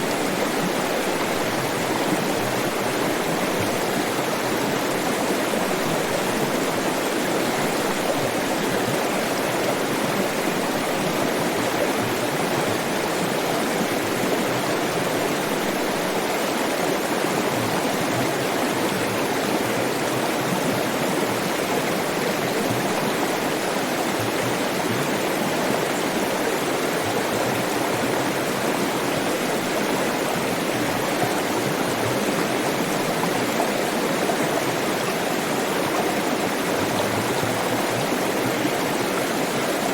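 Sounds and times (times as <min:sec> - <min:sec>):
stream water rushing and gurgling: 0:00.0 - 0:39.9.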